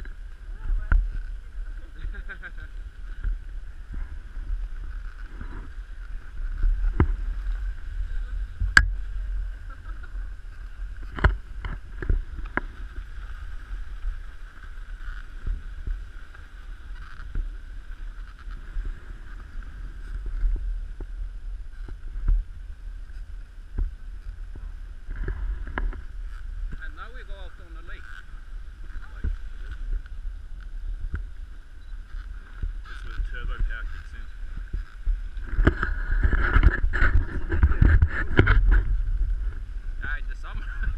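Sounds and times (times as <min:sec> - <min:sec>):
sled runners rumbling on snow: 0:00.0 - 0:40.9.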